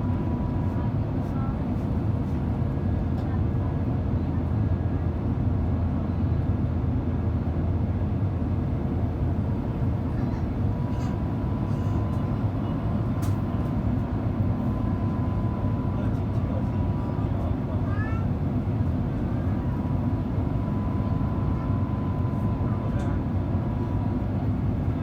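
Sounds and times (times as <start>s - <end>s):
aircraft cabin engine noise: 0.0s - 25.0s.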